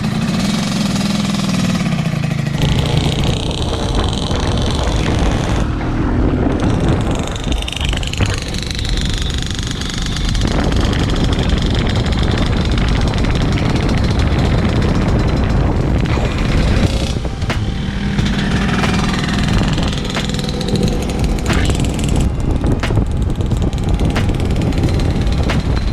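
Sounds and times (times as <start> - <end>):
two-stroke scooter engine revving: 0.0 - 25.9.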